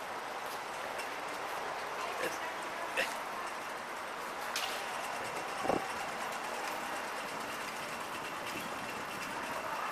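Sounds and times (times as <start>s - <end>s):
electric train running: 0.0s - 9.9s.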